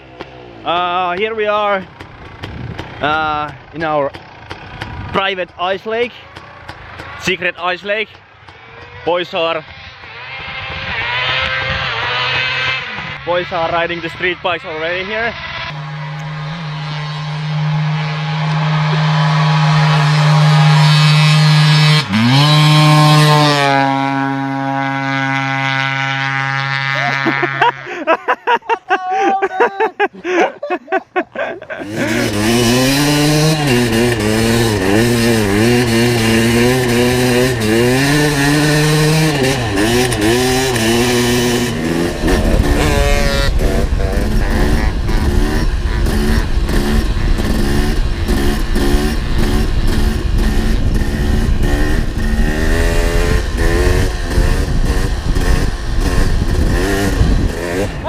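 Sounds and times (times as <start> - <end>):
motorcycle engines revving: 0.0 - 28.6, 29.9 - 58.0.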